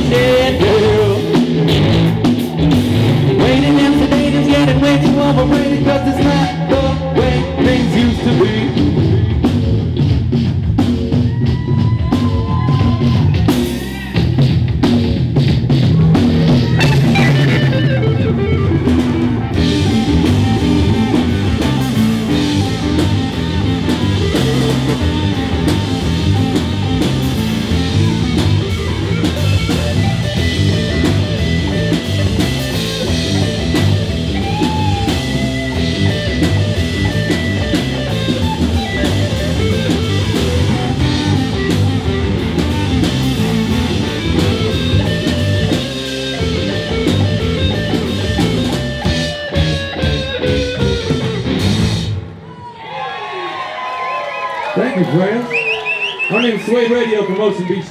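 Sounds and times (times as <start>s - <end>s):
drum kit: 0.0s - 52.6s
electric guitar: 0.0s - 52.7s
rock music: 0.0s - 52.8s, 53.8s - 57.9s.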